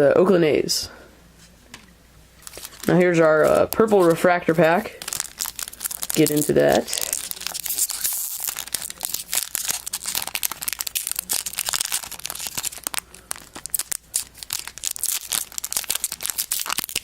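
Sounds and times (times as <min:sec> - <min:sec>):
wrapper crinkling: 0:02.4 - 0:17.0.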